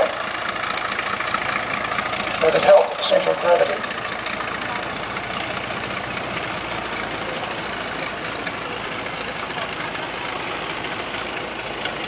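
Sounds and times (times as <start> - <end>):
biplane engines droning overhead: 0.0 - 12.0.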